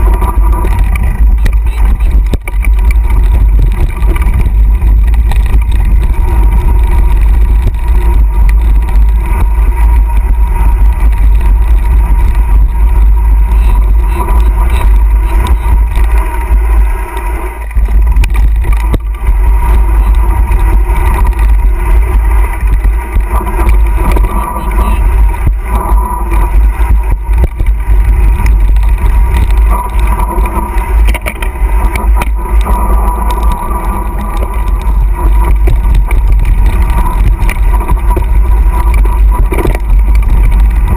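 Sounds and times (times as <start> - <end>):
bike knocking and rattling: 0.0 - 40.9
wind buffeting the microphone: 0.0 - 40.9.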